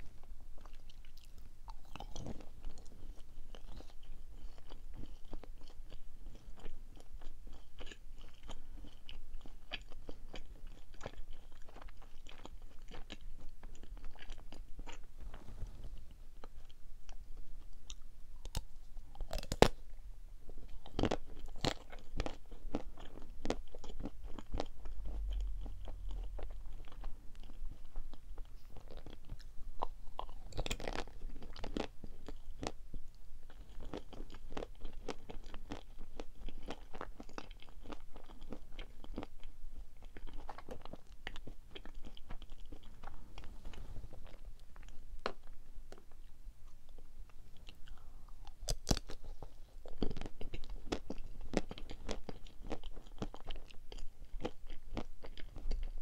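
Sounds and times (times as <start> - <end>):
chewing chocolate confections: 0.0 - 15.2, 16.4 - 43.6, 44.2 - 56.0.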